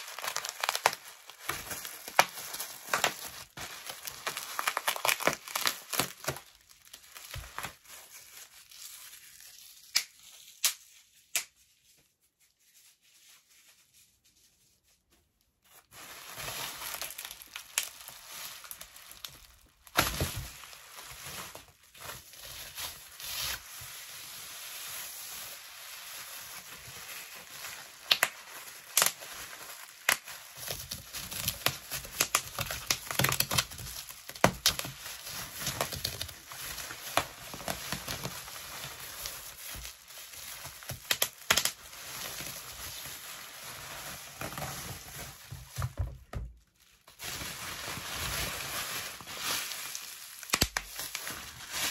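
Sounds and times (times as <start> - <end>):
bubble wrap crinkling and crackling: 0.0 - 51.9.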